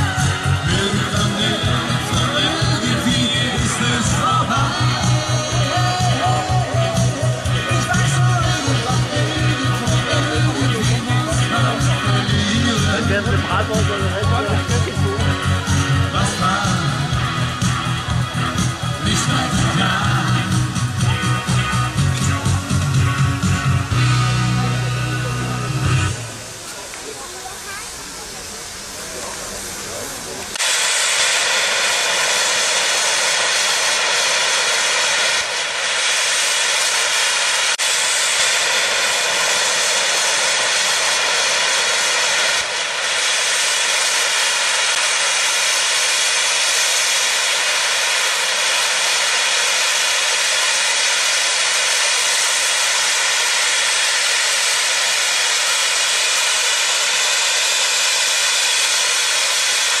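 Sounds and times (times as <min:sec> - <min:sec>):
steam safety valves roaring hiss: 0:00.0 - 1:00.0.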